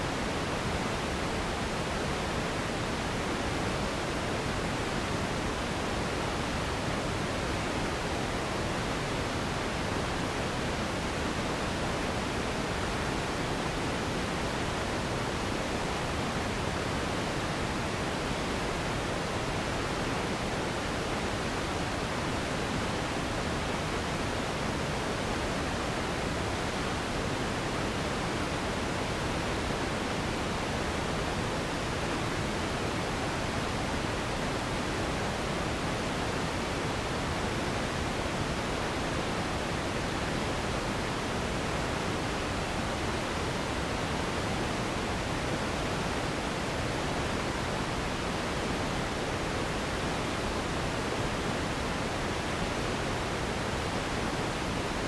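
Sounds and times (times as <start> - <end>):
steady broadband noise: 0.0 - 55.0.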